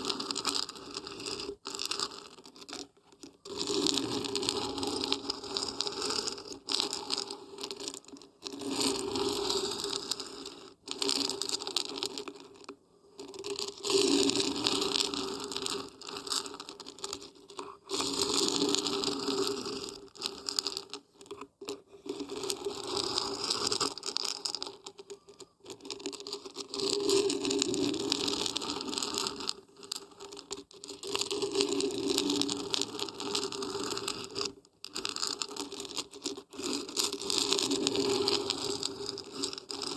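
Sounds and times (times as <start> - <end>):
dried beans rattling when shaken: 0.0 - 21.4, 22.2 - 39.9.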